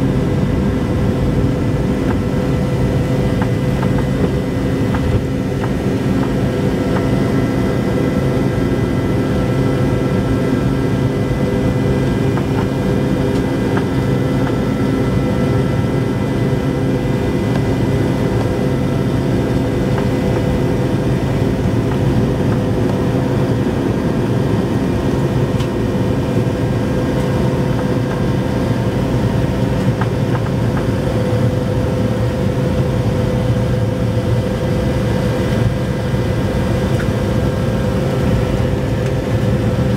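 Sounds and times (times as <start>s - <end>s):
jet cabin drone: 0.0s - 39.9s.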